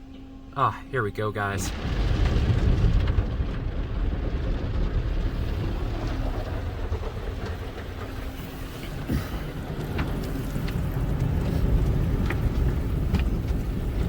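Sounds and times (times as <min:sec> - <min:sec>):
car wash machine rumbling: 0:00.6 - 0:14.0.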